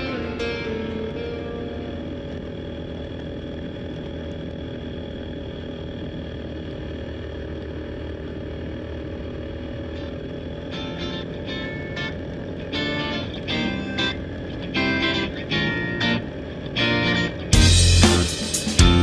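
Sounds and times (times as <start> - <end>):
wind: 0.0 - 17.6
motorcycle engine running: 0.0 - 19.0
road noise: 0.0 - 19.0.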